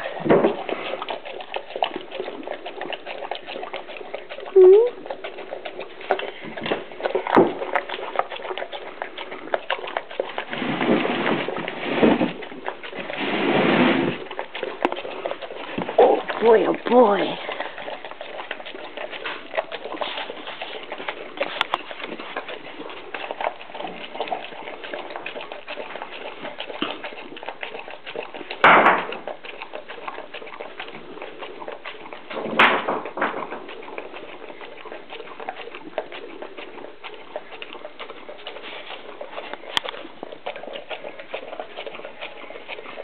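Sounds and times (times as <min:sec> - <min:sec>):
dog chewing from plastic bowl: 0:00.0 - 0:43.0.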